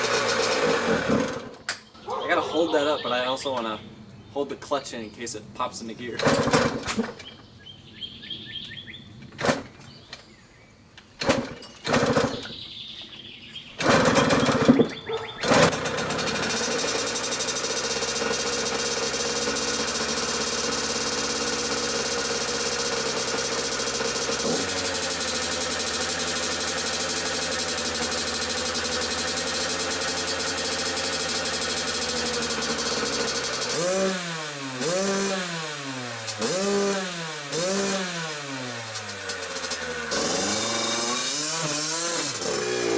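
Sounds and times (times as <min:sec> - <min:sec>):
dirt bike engine kick-started: 0:00.0 - 0:02.3, 0:06.0 - 0:07.5, 0:09.2 - 0:10.3, 0:11.1 - 0:42.9.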